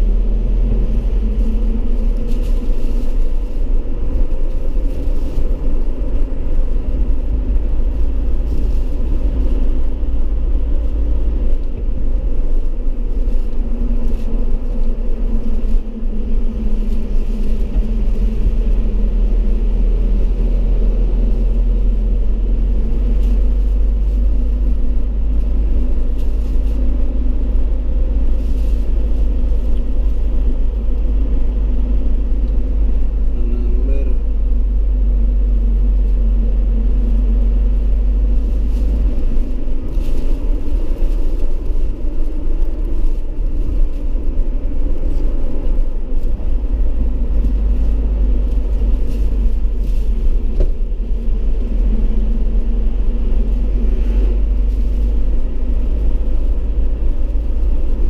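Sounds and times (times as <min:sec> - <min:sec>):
engine and road noise in cabin: 0:00.0 - 0:58.0.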